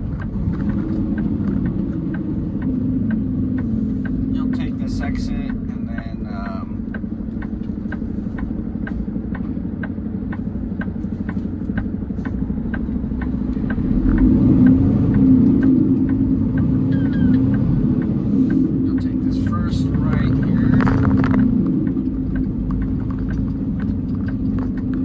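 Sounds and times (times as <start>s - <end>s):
diesel truck engine droning: 0.0s - 25.0s
turn signal ticking: 0.0s - 25.0s.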